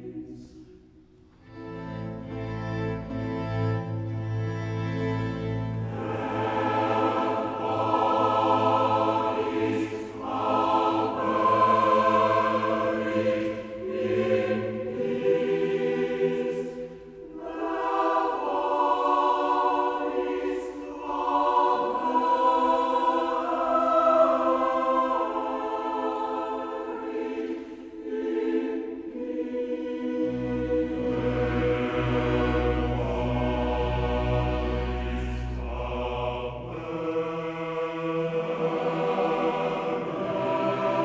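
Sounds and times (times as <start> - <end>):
choir singing long notes: 0.0 - 41.0.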